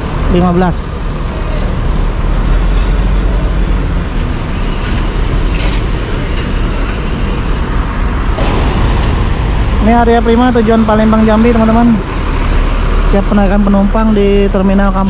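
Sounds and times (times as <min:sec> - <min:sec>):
diesel coach engine idling: 0:00.0 - 0:15.0.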